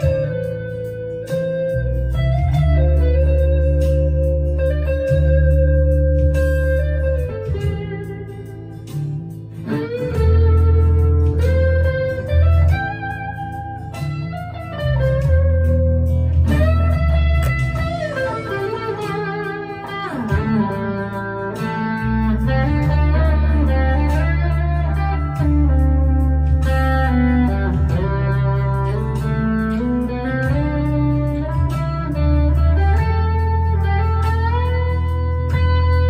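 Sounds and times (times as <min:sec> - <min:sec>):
overdriven electric guitar: 0:00.0 - 0:36.0.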